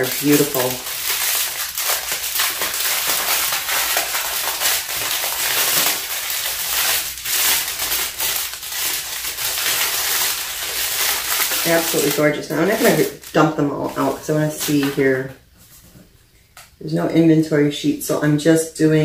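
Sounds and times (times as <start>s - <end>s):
plastic baggies crinkling: 0.0s - 15.5s.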